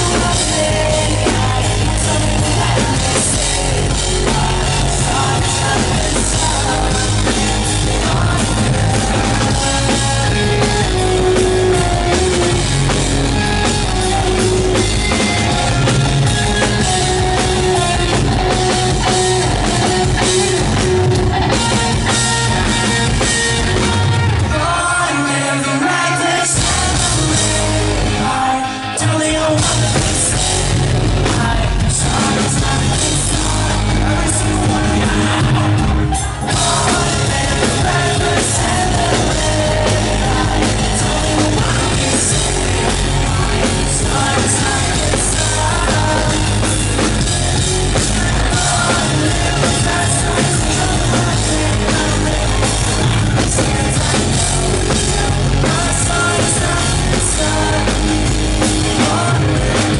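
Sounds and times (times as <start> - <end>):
male lead vocal: 0.0 - 59.9
rock band playing live: 0.0 - 59.9.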